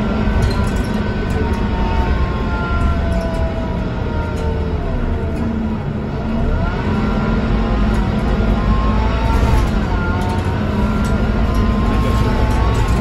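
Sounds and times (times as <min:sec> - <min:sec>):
bus diesel engine rumble: 0:00.0 - 0:13.0
high engine whine rising in pitch: 0:00.0 - 0:13.0.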